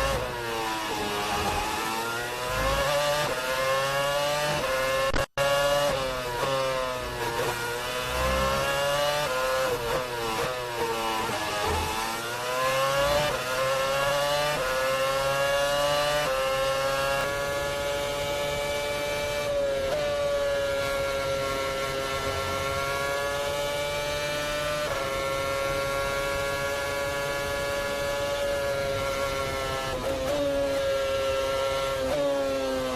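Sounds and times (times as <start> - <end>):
racing car engine revving: 0.0 - 32.9.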